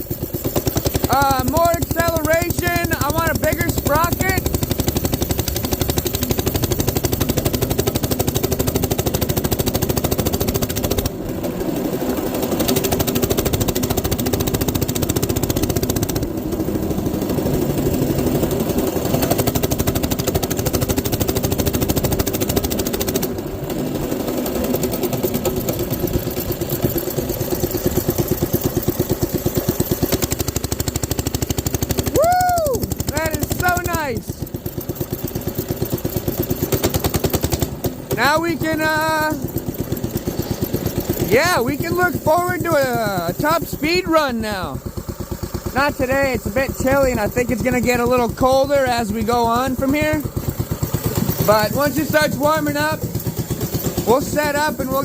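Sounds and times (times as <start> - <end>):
mini bike engine running hard: 0.0 - 55.0.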